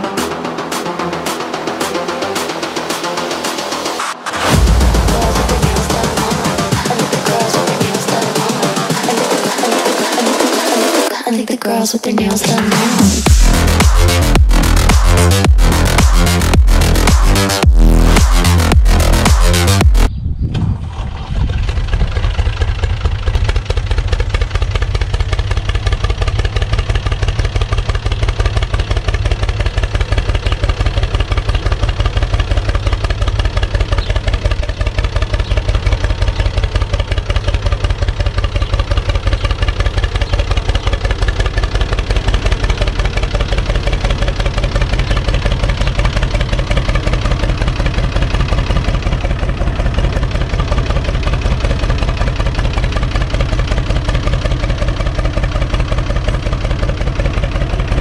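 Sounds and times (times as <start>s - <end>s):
tractor diesel engine idling: 0.0s - 11.1s, 12.2s - 20.1s, 20.8s - 58.0s.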